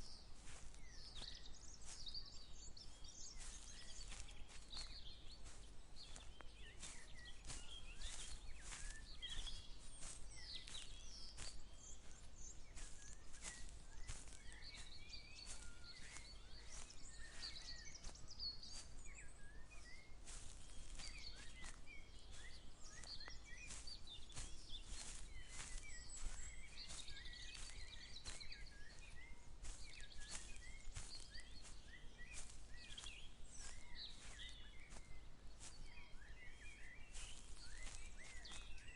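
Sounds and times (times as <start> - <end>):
footsteps through vegetation: 0.0 - 38.9
small birds chirping: 0.0 - 38.9.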